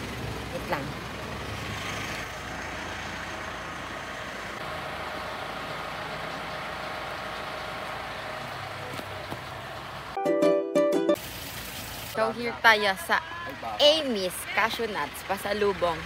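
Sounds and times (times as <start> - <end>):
vehicle engine hum: 0.0 - 10.2, 11.2 - 16.0
road noise: 0.0 - 10.4, 11.0 - 16.0.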